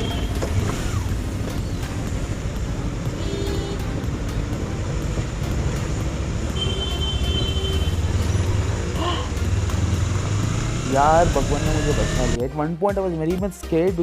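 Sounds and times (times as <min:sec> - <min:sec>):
motorcycle engine running: 0:00.0 - 0:12.4
wind and road noise: 0:00.0 - 0:12.4.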